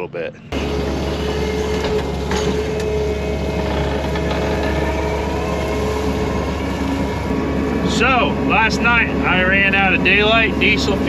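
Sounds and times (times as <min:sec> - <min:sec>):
engine running steadily: 0:00.1 - 0:11.0.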